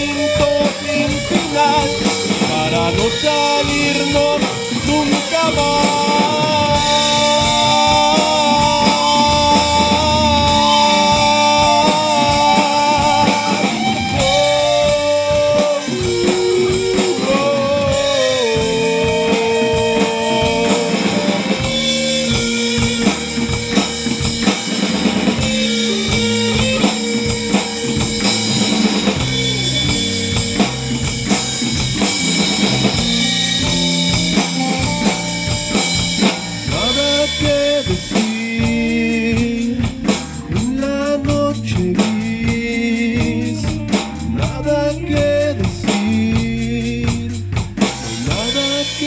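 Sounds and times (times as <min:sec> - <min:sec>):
drum kit beat: 0:00.0 - 0:49.0
electric guitar lead: 0:00.0 - 0:49.0.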